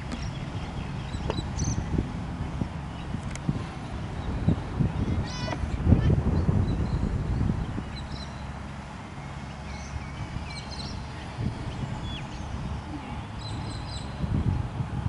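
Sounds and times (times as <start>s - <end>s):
small birds chirping: 0.0s - 3.5s, 4.1s - 14.3s
wind rumble on microphone: 0.0s - 15.0s.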